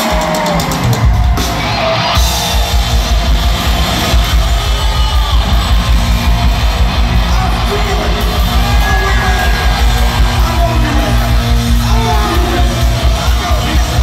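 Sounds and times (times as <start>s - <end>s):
heavy drum beat: 0.0s - 14.0s
rock band playing live: 0.0s - 14.0s.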